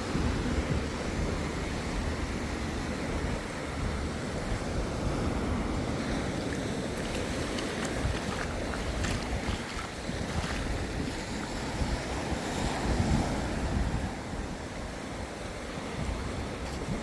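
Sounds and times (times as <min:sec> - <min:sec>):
waves washing onto beach: 0:00.0 - 0:17.0
wind buffeting microphone: 0:00.0 - 0:17.0.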